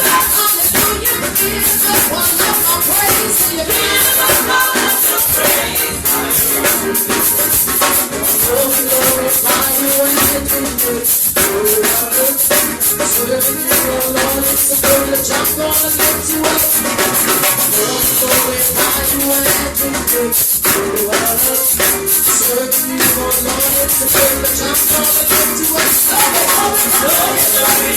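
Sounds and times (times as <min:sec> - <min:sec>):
drums: 0:00.0 - 0:27.9
praise band playing upbeat song: 0:00.0 - 0:27.9
tambourine: 0:00.0 - 0:27.9.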